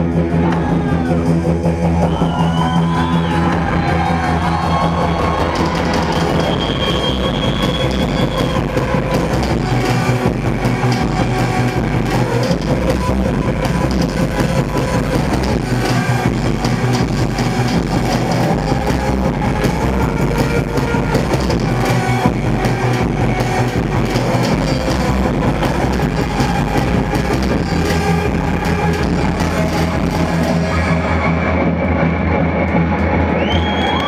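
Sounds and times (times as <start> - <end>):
electronic drums: 0.0 - 31.6.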